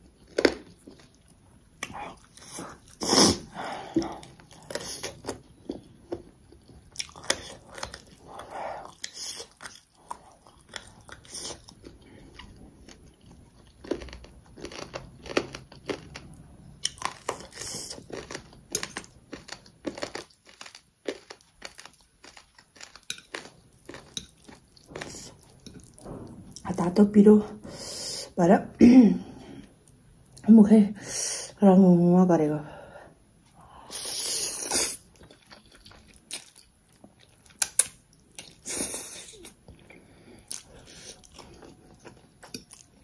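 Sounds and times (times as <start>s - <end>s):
person chewing food: 0.0s - 26.6s, 33.7s - 43.0s.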